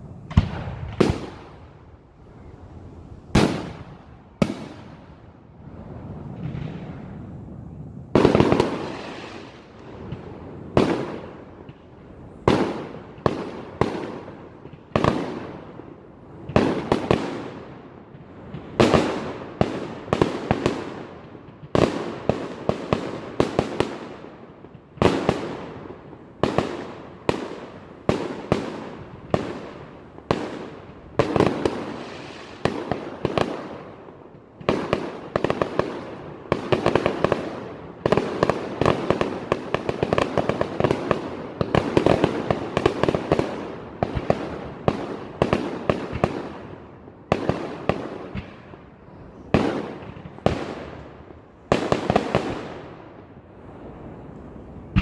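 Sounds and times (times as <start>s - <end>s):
fireworks exploding: 0.0s - 55.0s.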